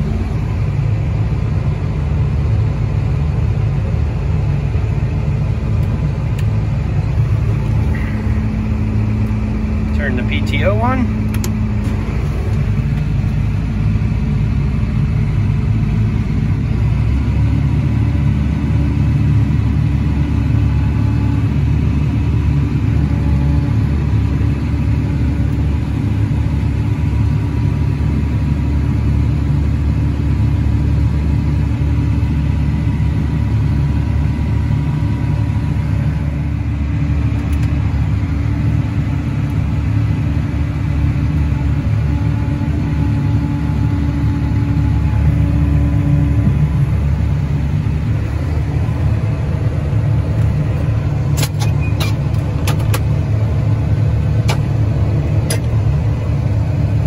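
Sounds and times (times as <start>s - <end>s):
large vehicle engine running: 0.0s - 57.0s.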